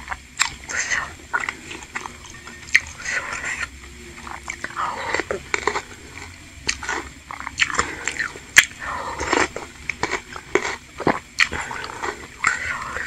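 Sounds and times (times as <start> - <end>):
chewing and wet mouth noises: 0.0 - 13.0.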